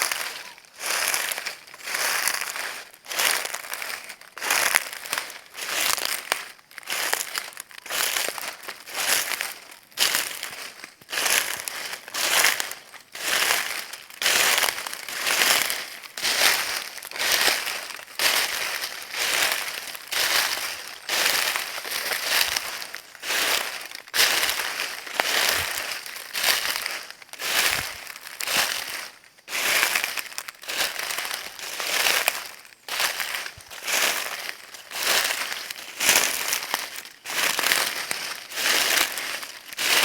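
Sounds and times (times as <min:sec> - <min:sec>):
footsteps crunching dry leaves: 0:00.0 - 0:40.0.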